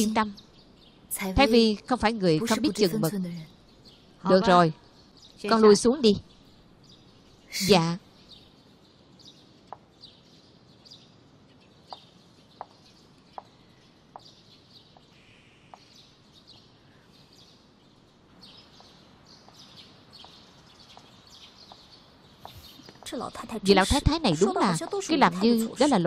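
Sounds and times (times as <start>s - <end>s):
birds chirping: 0.0s - 26.0s
soft steady hiss: 0.0s - 26.0s.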